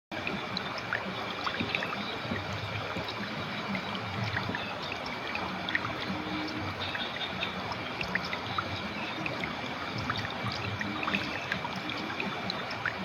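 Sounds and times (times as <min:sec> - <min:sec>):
water plinks and gurgles: 0:00.1 - 0:13.0
river water rushing: 0:00.2 - 0:13.0.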